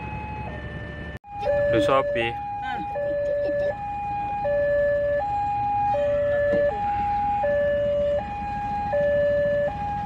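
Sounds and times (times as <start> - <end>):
level crossing two-tone alarm: 0.0 - 9.9.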